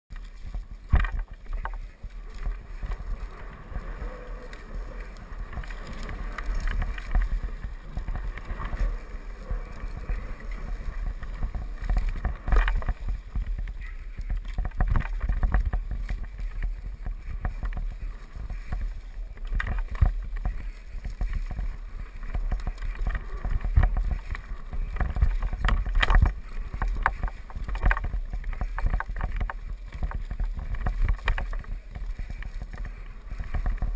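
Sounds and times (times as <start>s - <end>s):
bike knocking and rattling: 0.1s - 33.9s
wind rumbling on microphone: 0.1s - 33.9s.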